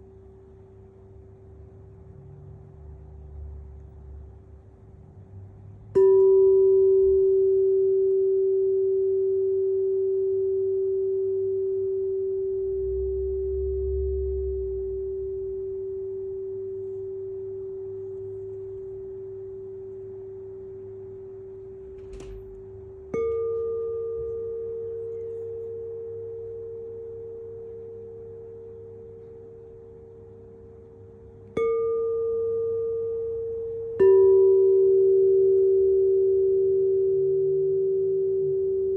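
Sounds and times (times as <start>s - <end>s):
high tuning fork ringing: 5.9s - 38.9s
low tuning fork ringing: 5.9s - 38.9s.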